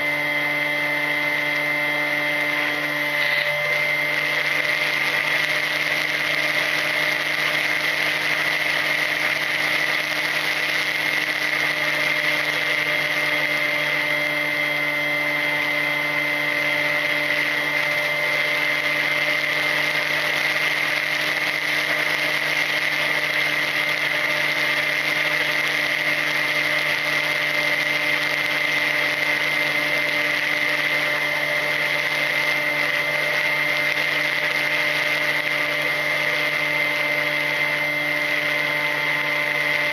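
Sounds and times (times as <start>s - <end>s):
electric motor propeller whine: 0.0s - 39.9s.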